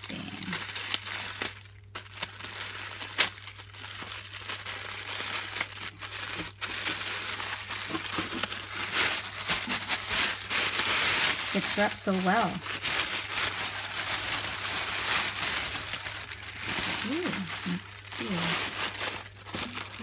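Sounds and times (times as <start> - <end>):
low steady hum: 0.0 - 20.0
plastic wrapping crinkling: 0.0 - 20.0.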